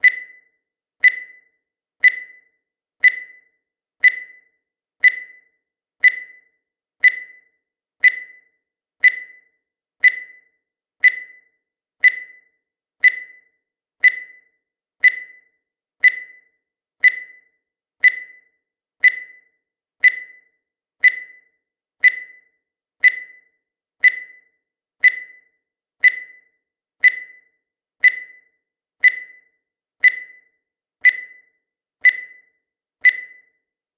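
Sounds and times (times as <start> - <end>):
short high timer beeps: 0.0 - 33.6.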